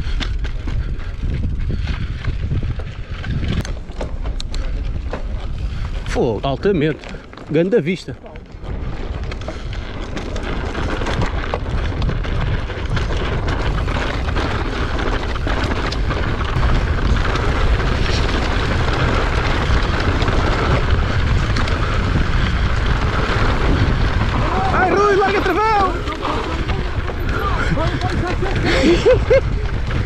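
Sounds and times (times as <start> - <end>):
bike clicking and knocking: 0.0 - 5.9, 8.2 - 30.0
wind on microphone: 0.0 - 7.3, 8.2 - 30.0
tyres on gravel: 0.0 - 30.0.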